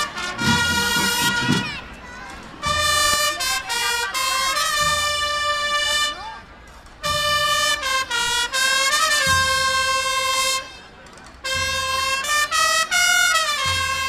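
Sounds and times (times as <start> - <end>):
brass instrument melody: 0.0 - 1.9, 2.6 - 6.2, 7.0 - 10.7, 11.4 - 14.0.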